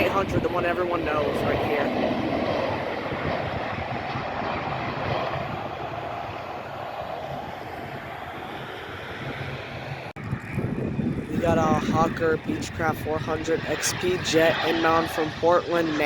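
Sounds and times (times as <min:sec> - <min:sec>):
jet engine rush: 0:00.0 - 0:16.0.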